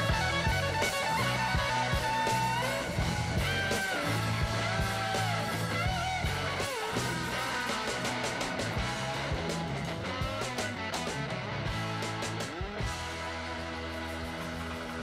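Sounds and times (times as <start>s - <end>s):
bass line and beat: 0.0s - 15.0s
sliding guitar music: 0.0s - 15.0s.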